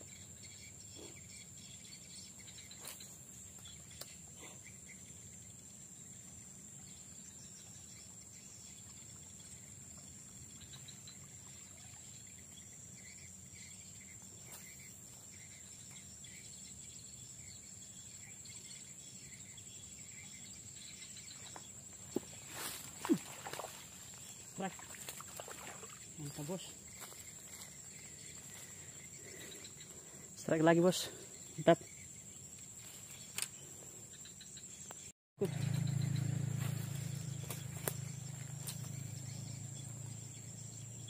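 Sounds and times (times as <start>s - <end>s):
high-pitched insect drone: 5.0s - 41.0s.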